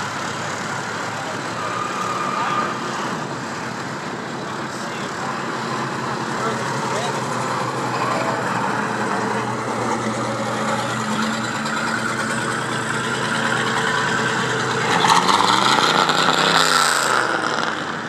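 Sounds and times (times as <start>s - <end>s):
cars driving slowly past: 0.0s - 18.0s.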